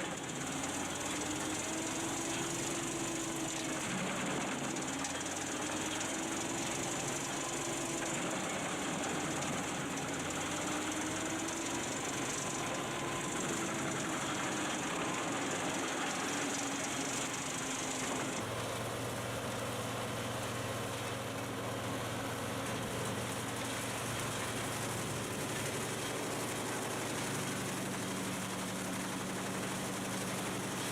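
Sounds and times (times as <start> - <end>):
heavy machinery engine running: 0.0 - 30.9.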